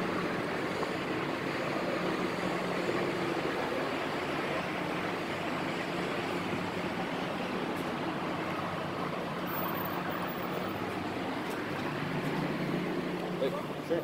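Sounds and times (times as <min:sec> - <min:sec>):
idling vehicle engines: 0:00.0 - 0:14.0
traffic rushing: 0:00.0 - 0:14.0.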